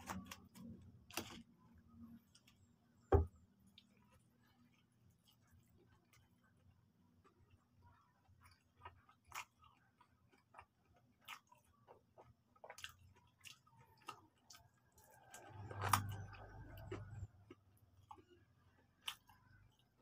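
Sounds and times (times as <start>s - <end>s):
chewing crispy chicken: 0.0s - 20.0s.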